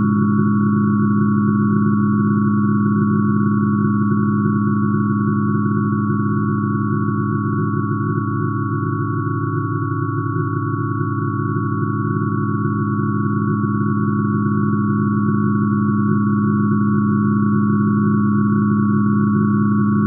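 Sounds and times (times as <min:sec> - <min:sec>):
synthesized sine tone drone: 0:00.0 - 0:20.0.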